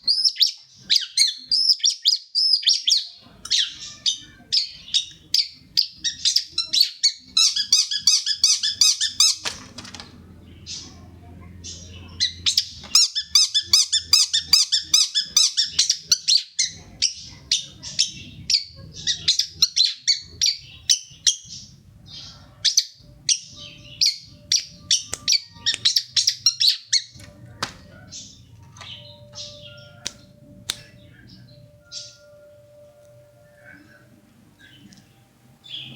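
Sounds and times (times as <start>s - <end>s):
bird chirping and trilling: 0.0s - 35.9s.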